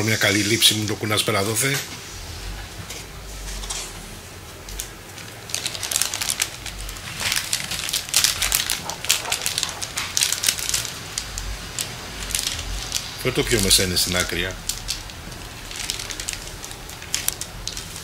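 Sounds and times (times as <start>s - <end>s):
plastic bag and paper crinkling: 2.8s - 18.0s.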